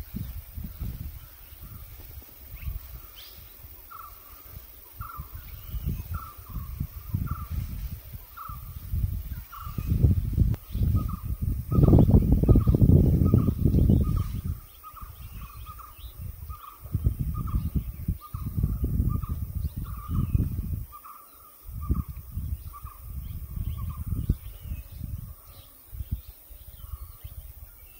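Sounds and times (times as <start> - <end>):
faint bird chirps: 0.0 - 27.9.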